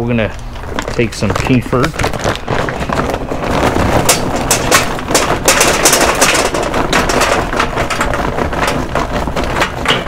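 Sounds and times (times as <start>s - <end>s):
charcoal rattling into metal container: 0.7s - 10.0s.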